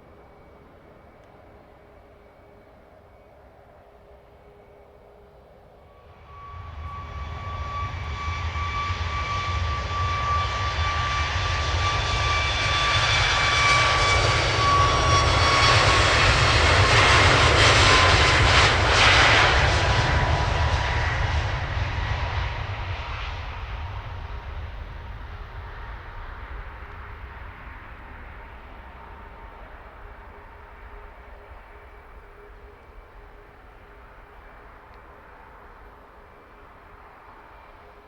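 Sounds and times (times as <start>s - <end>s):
jet airliner engines passing: 0.0s - 38.0s.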